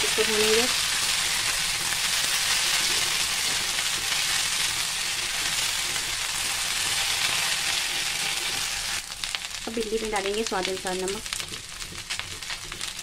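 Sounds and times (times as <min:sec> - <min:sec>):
metal spatula stir-frying: 0:00.0 - 0:13.0
vegetables sizzling in hot oil: 0:00.0 - 0:13.0.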